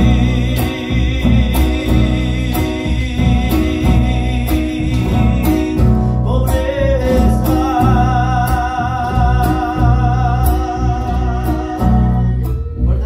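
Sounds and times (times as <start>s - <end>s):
live band playing: 0.0s - 12.4s
man singing: 0.0s - 13.0s.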